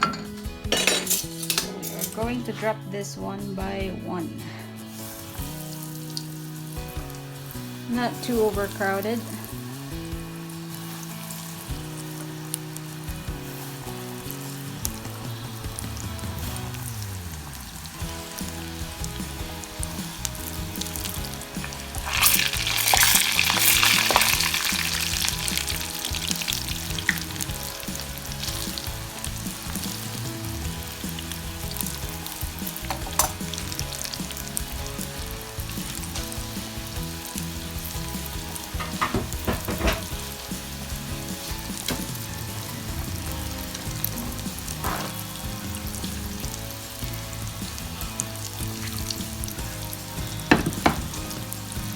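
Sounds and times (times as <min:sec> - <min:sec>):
food deep-frying in oil: 0:04.8 - 0:51.9
oil crackles: 0:04.9 - 0:51.9.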